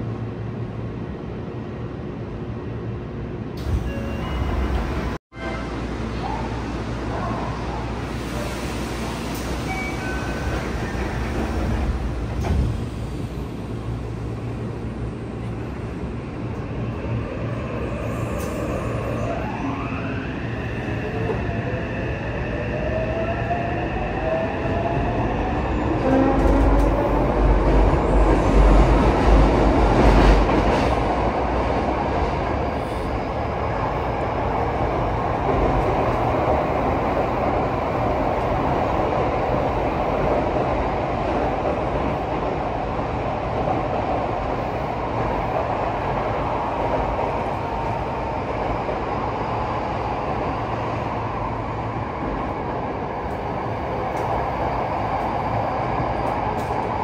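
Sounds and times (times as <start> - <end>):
wheel and running noise in tunnel: 9.2 - 57.0.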